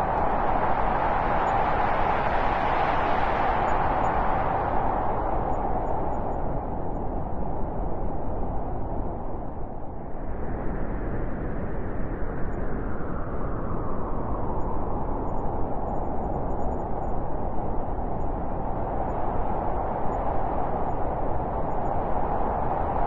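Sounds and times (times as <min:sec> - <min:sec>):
blizzard wind blowing: 0:00.0 - 0:23.0.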